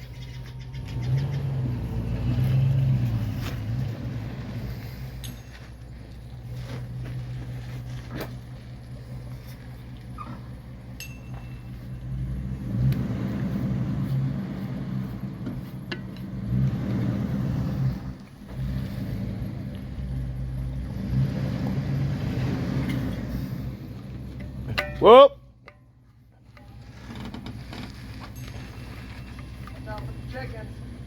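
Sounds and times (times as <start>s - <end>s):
truck engine pulling: 0.0s - 31.0s.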